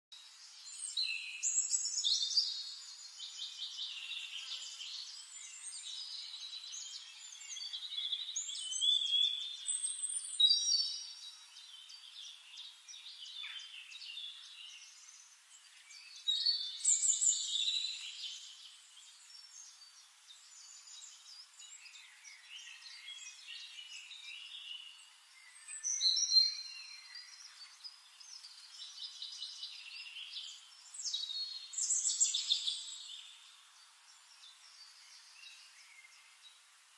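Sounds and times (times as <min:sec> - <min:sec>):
bird trilling song: 0:00.3 - 0:36.5.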